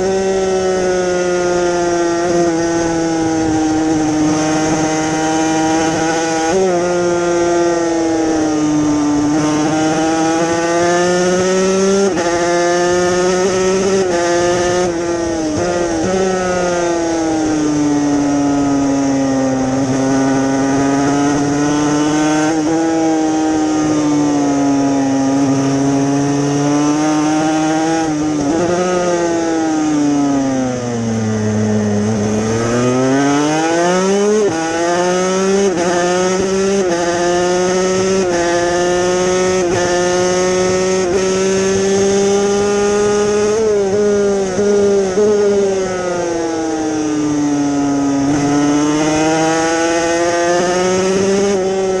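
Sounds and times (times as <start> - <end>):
racing motorcycle engine revving: 0.0 - 52.0.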